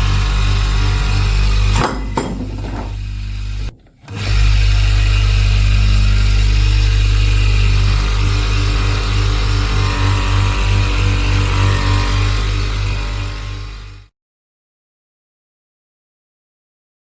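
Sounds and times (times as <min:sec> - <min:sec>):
electric power tool running: 0:00.0 - 0:14.0.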